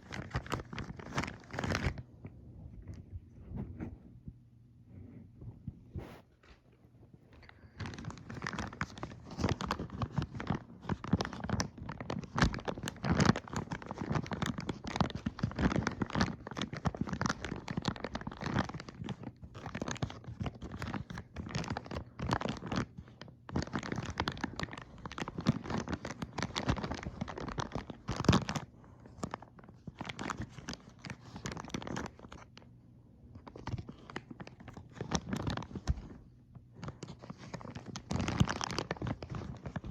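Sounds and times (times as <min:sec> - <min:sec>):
plastic packaging crinkling and tearing: 0:00.0 - 0:02.1, 0:07.4 - 0:39.9.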